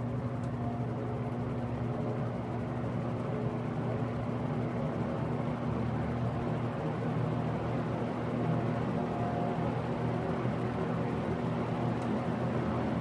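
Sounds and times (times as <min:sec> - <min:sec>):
box fan motor hum: 0:00.0 - 0:13.0.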